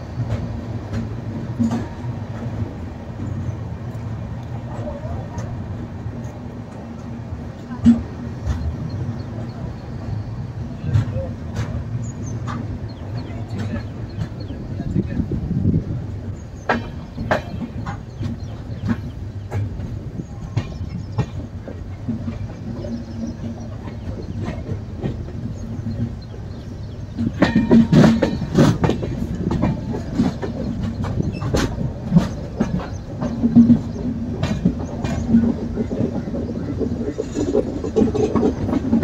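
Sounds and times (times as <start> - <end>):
train coaches rumbling: 0.0 - 39.0
wheels clicking over rail joints: 0.0 - 39.0.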